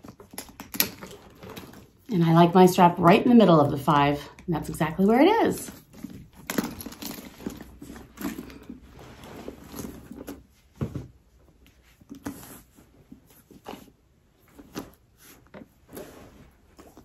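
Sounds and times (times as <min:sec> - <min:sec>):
clothing and strap rustling: 0:00.0 - 0:17.0.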